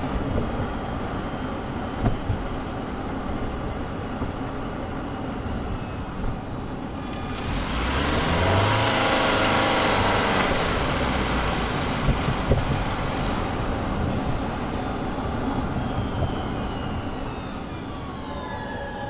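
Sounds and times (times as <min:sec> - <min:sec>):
road and tyre noise: 0:00.0 - 0:19.0
car engine hum: 0:02.7 - 0:19.0.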